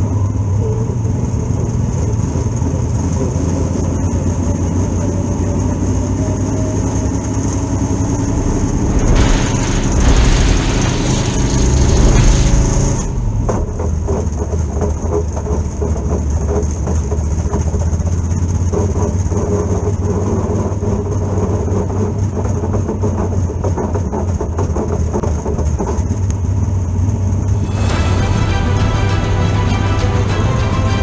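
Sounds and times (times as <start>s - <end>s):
race car engine rumbling: 0.0s - 31.0s.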